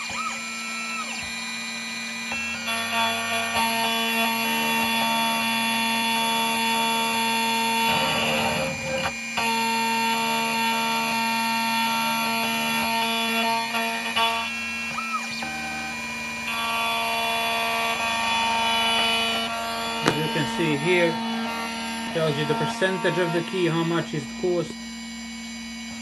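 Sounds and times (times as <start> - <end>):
key cutting machine whining: 0.0 - 26.0.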